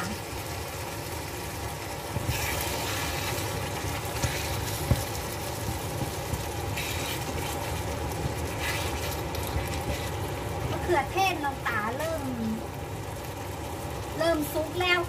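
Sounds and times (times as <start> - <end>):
gas burner low rumble: 0.0 - 15.0
pot of food bubbling: 0.0 - 15.0.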